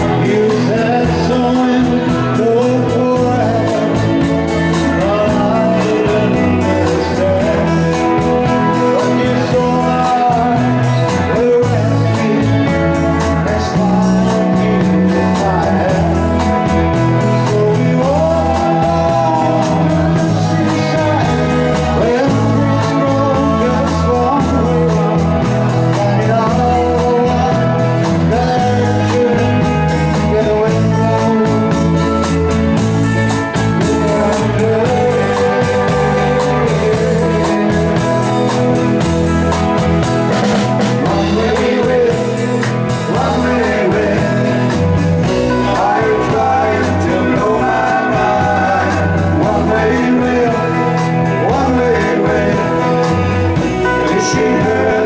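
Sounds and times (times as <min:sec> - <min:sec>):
bass guitar: 0:00.0 - 0:55.0
drums: 0:00.0 - 0:55.0
electric guitar: 0:00.0 - 0:55.0
man singing lead: 0:00.0 - 0:55.0.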